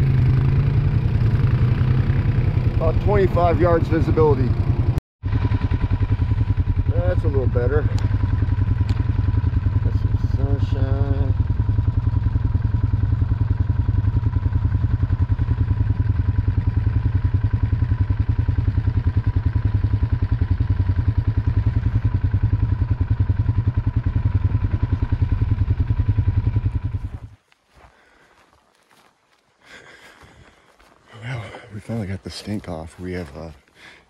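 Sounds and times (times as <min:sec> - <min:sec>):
atv engine running: 0:00.0 - 0:27.4.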